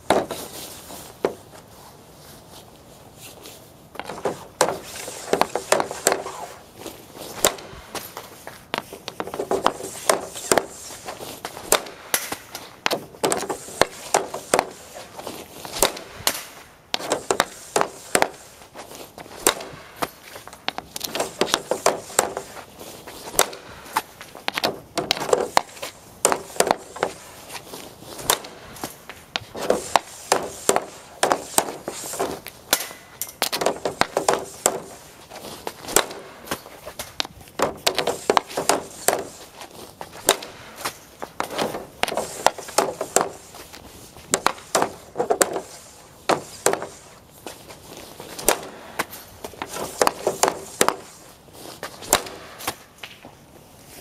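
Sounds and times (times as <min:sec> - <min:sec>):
hockey stick slap shots: 0:00.0 - 0:00.5, 0:04.0 - 0:06.6, 0:07.3 - 0:47.6, 0:48.3 - 0:51.2, 0:51.8 - 0:53.2.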